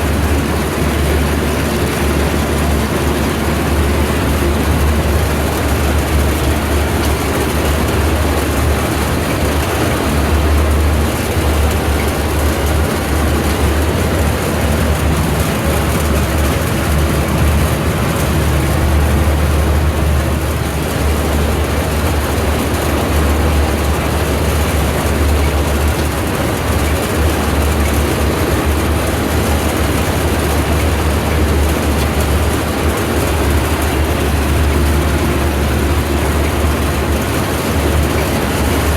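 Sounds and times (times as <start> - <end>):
heavy engine running: 0.0 - 38.9.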